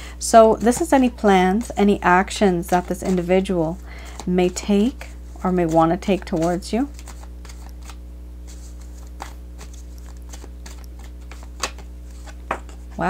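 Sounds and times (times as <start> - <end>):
steady low hum: 0.0 - 13.0
cards shuffling: 0.5 - 13.0.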